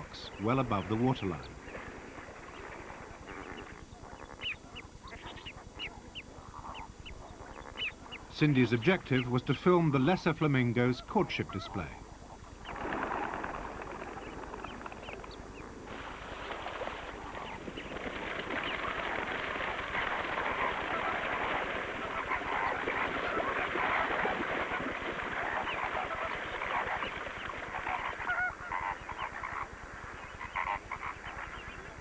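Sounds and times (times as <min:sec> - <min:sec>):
flock of flamingos calling: 0:00.0 - 0:32.0.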